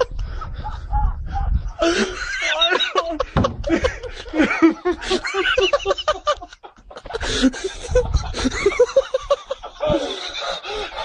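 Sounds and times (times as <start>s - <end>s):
high-pitched giggling laughter: 0.0s - 11.0s.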